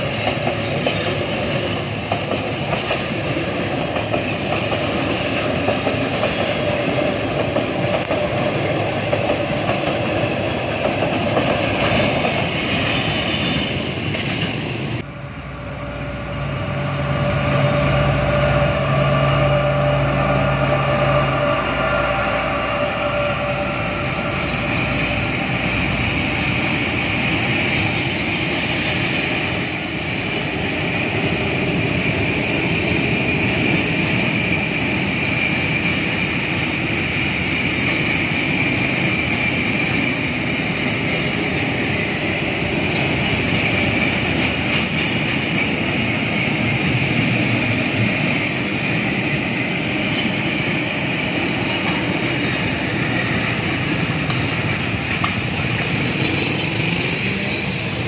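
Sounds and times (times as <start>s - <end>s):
diesel locomotive engine: 0.0s - 58.0s
train wheels on rails: 0.0s - 58.0s.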